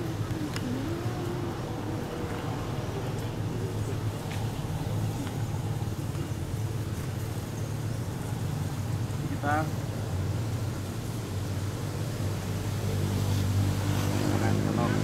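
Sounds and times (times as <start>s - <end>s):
low background rumble: 0.0s - 12.1s.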